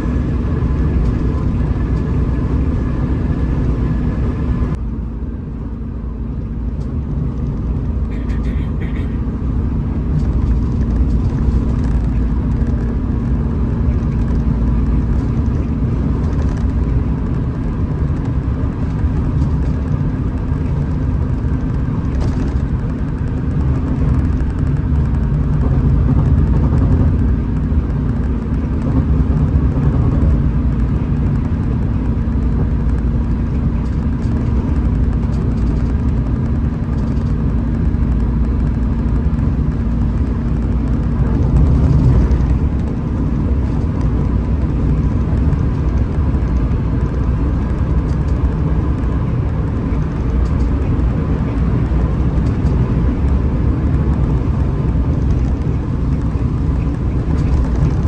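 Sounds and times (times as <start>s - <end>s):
bus engine drone: 0.0s - 58.0s
road rumble: 0.0s - 58.0s.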